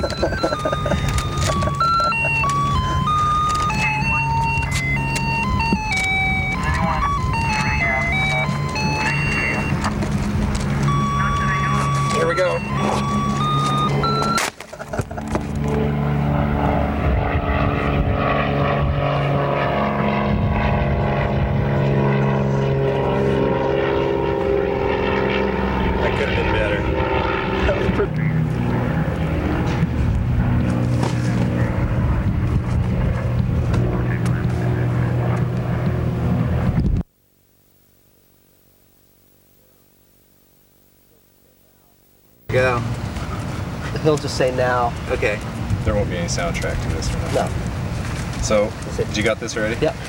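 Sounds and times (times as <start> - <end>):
steady mechanical drone: 0.0 - 37.1, 42.1 - 50.0
higher hum: 0.0 - 44.0.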